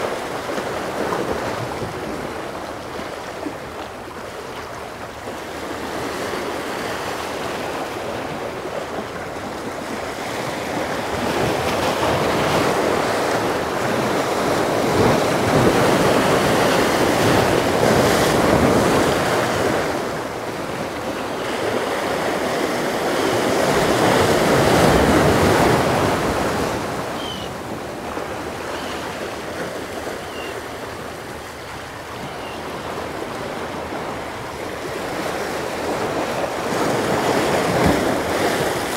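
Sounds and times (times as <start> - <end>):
surf washing against jetty: 0.0 - 38.9.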